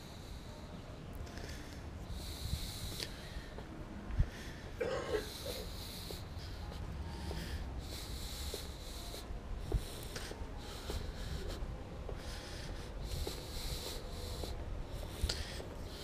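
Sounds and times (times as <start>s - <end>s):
person breathing in hissy puffs: 0.0s - 16.0s.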